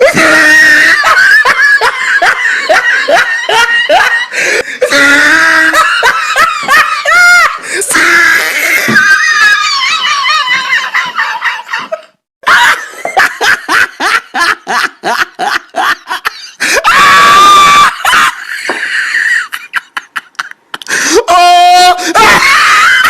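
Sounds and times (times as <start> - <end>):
person laughing: 0.0 - 21.1, 22.0 - 23.0.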